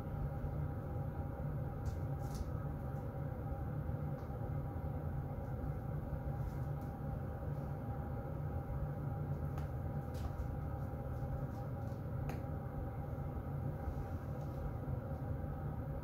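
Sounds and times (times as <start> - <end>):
faint hum: 0.0 - 16.0
heater vent blowing air: 0.0 - 16.0.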